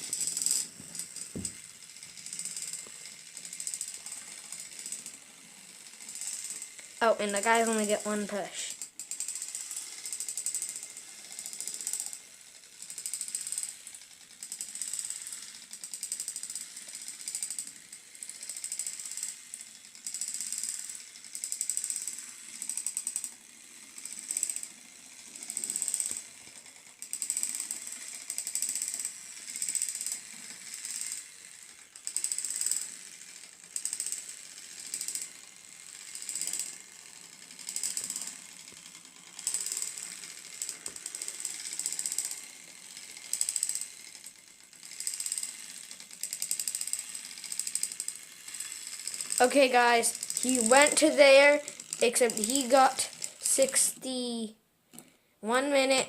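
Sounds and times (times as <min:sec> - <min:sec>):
toy train motor clattering: 0:00.0 - 0:56.0.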